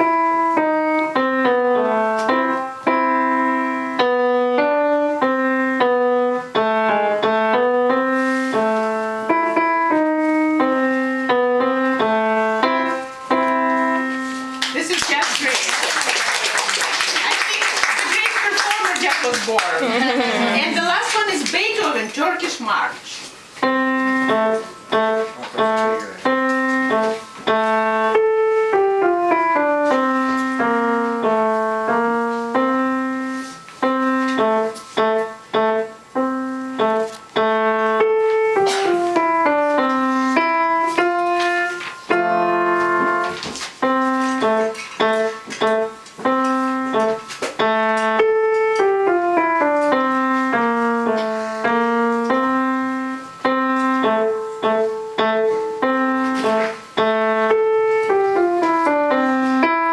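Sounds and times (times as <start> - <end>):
fast solo piano piece: 0.0 - 22.4, 23.6 - 59.9.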